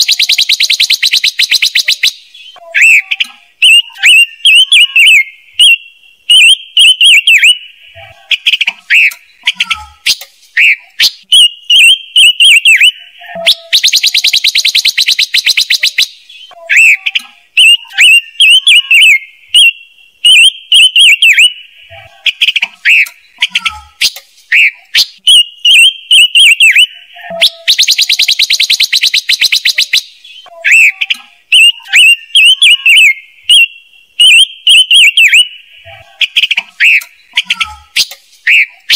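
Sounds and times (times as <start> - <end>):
whistled bird call notes: 0.0 - 38.8
bird chattering trill: 0.0 - 38.9.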